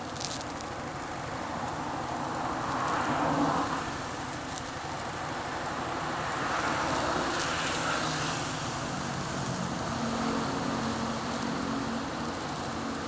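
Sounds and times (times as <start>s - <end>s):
cars passing on a street: 0.0s - 13.0s.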